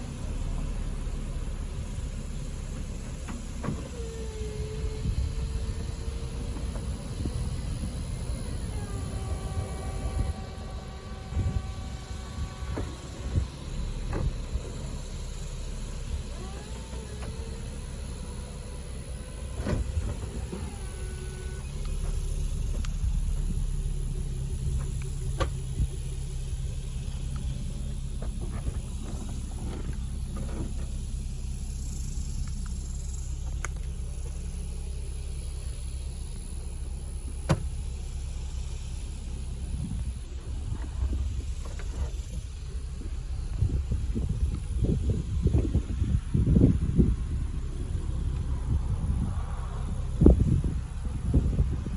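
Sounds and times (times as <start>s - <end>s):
low engine rumble: 0.0s - 51.9s.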